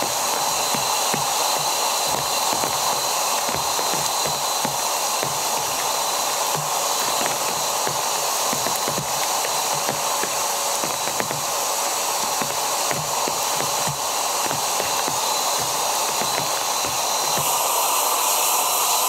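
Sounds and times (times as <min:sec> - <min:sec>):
raindrops ticking: 0:00.0 - 0:17.4
electric air pump whirring: 0:00.0 - 0:19.0.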